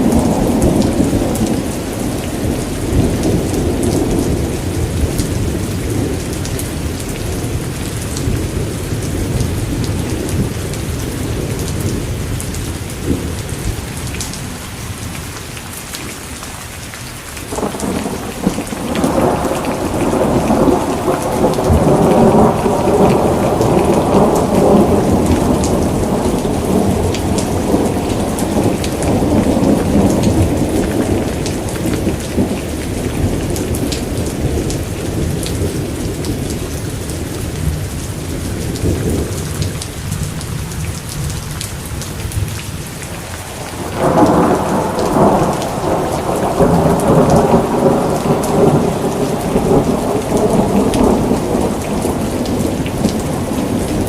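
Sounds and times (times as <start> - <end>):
rolling thunder: 0.0 - 13.8, 17.5 - 41.4, 43.4 - 54.0
rain pattering: 0.0 - 54.0.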